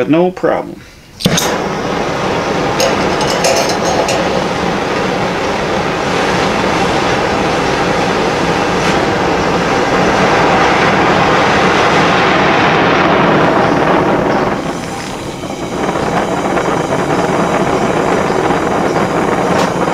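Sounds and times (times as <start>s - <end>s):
torch flame hissing: 1.2s - 19.9s.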